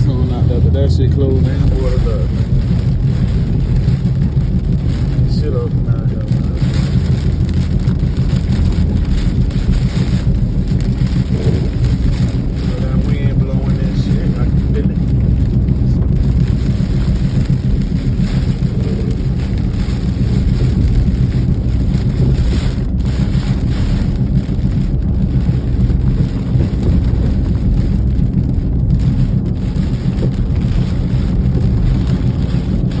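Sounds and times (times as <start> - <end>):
car rumble: 0.0 - 33.0
rain hiss: 0.1 - 33.0.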